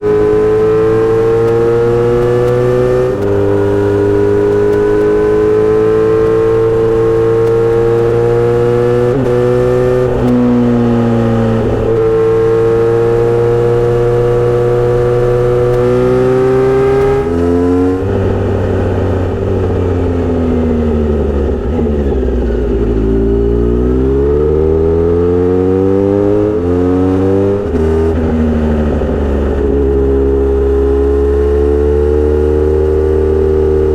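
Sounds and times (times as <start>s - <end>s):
motorcycle exhaust revving: 0.0s - 33.9s.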